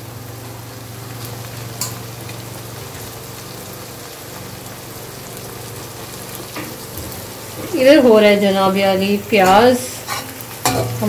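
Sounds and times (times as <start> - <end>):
okra sizzling in oil: 0.0 - 11.0.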